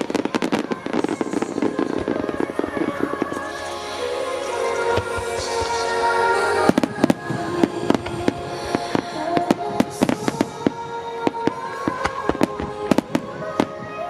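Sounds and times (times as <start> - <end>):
fireworks bursting: 0.0 - 14.0
music playing: 0.0 - 14.0.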